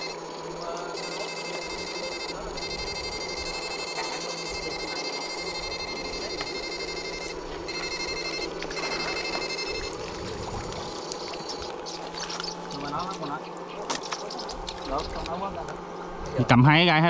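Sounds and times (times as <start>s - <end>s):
high-pitched electronic whine: 0.0s - 15.4s
steady low hum: 0.0s - 17.0s.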